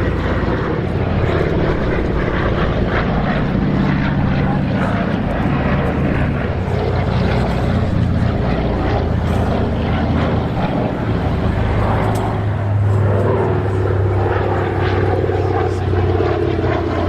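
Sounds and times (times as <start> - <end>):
propeller plane engines droning: 0.0 - 17.0.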